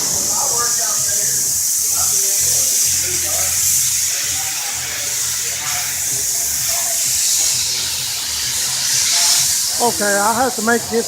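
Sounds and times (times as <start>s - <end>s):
faint distant voices: 0.0s - 11.0s
high-pitched hiss: 0.0s - 11.0s.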